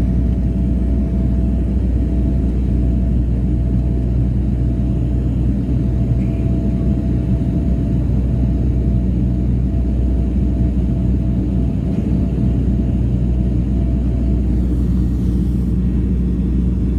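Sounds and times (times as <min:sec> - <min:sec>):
turboprop engines droning in cabin: 0:00.0 - 0:16.9.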